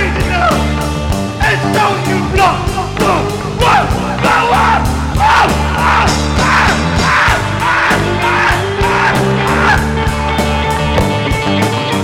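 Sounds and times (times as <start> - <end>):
drum beat: 0.0 - 11.5
held bass notes: 0.0 - 12.0.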